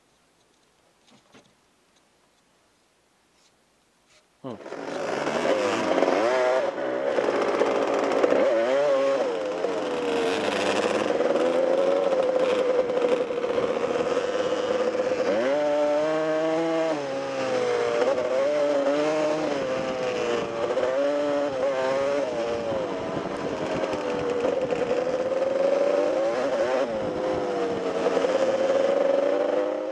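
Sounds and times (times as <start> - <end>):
dirt bike engine revving: 4.6 - 29.9.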